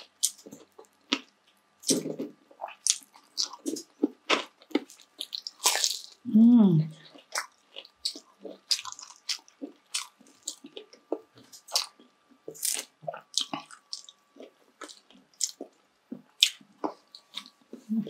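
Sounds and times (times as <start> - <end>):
person chewing crunchy food: 0.0 - 6.2, 7.0 - 18.0.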